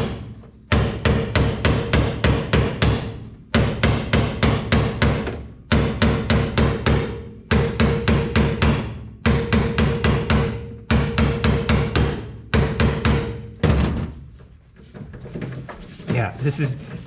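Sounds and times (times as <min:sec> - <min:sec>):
hammer striking impact driver: 0:00.0 - 0:13.9.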